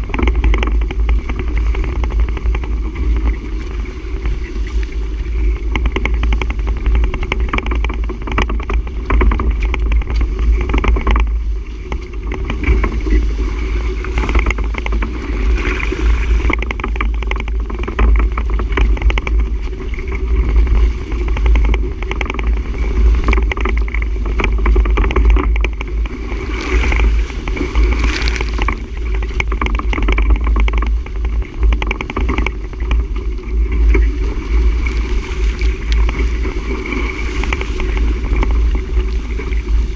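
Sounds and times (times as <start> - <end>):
sailboat rushing through water: 0.0 - 39.9
wind buffeting microphone: 0.0 - 39.9.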